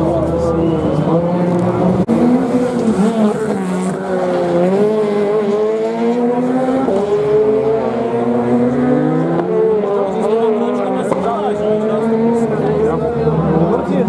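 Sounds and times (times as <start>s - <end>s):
rally car engine running hard: 0.0s - 14.0s.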